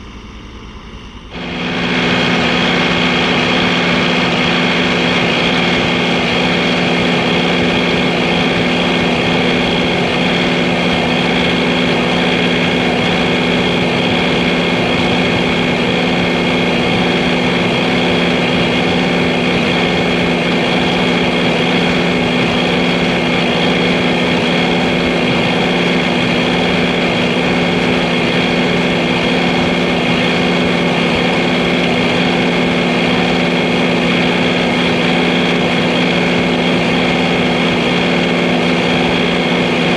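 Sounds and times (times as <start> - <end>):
machine whine: 0.0 - 39.9
tractor diesel engine running: 0.0 - 39.9.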